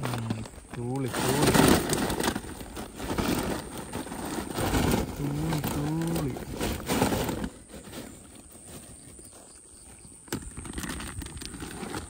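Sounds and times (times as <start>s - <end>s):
net rustling and tapping: 0.0s - 8.8s, 10.3s - 12.0s.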